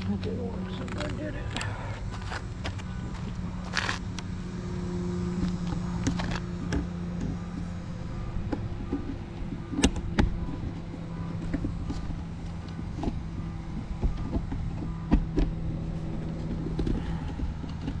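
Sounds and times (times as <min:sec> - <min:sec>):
wagon wheels rumbling on asphalt: 0:00.0 - 0:18.0.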